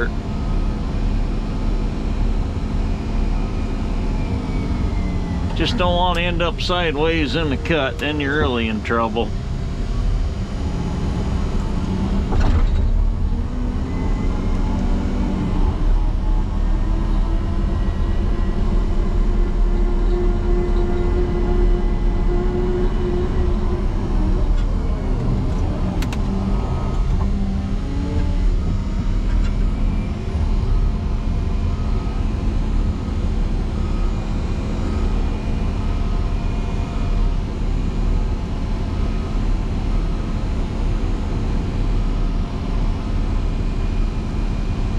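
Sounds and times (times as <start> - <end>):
diesel engine working hard: 0.0 - 44.9.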